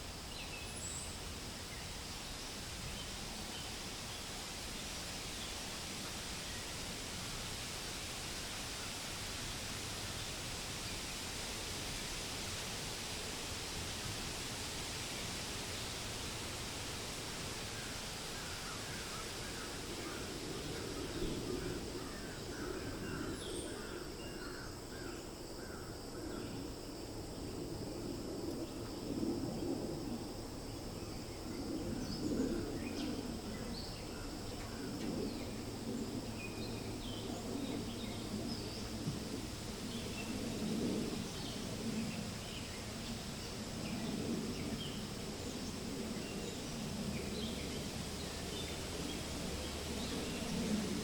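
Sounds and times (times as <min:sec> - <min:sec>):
wind through leaves: 0:00.0 - 0:51.0.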